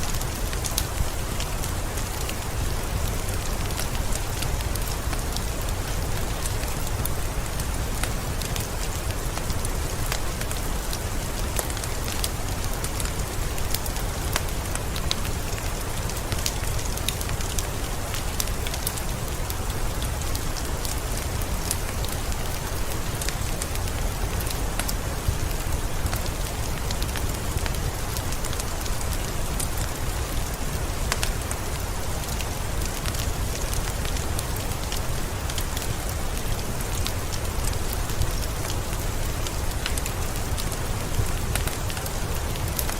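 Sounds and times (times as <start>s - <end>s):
rain hiss: 0.0s - 42.9s
wood fire crackling: 0.0s - 42.9s.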